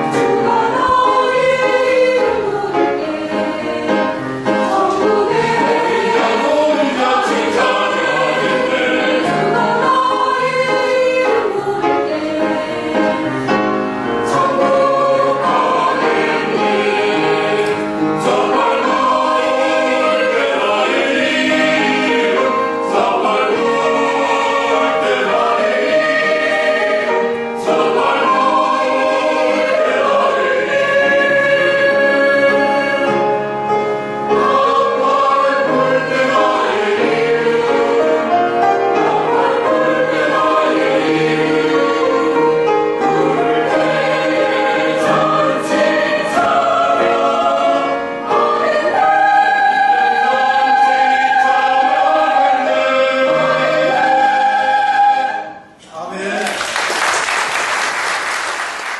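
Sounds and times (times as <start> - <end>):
choir singing a hymn: 0.0 - 56.3.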